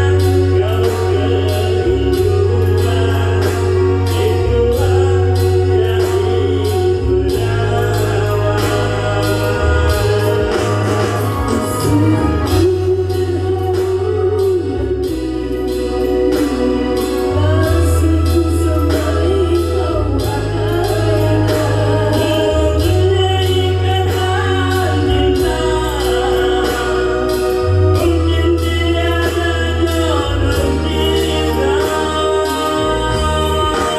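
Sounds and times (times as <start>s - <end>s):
heavy bass line: 0.0s - 33.9s
person singing: 0.0s - 33.9s
steady drum beat: 0.0s - 33.9s.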